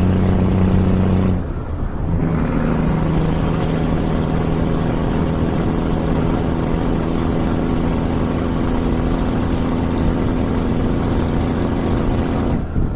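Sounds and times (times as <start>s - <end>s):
diesel truck engine running: 0.0s - 12.9s.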